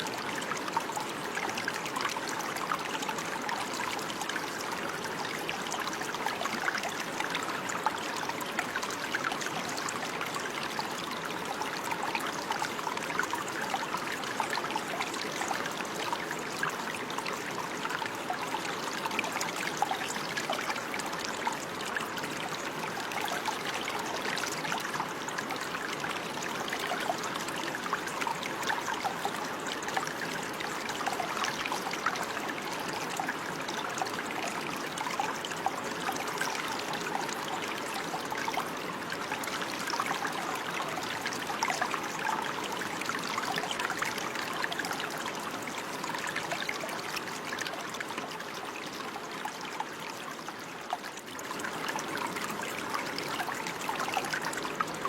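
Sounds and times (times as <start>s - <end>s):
shallow stream running: 0.0s - 55.0s
small water splashes and trickles: 0.0s - 55.0s.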